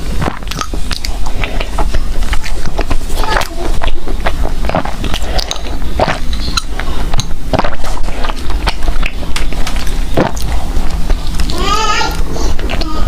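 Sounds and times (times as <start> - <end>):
steady low rumble: 0.0 - 13.0
close chewing with mouth smacks: 0.2 - 13.0.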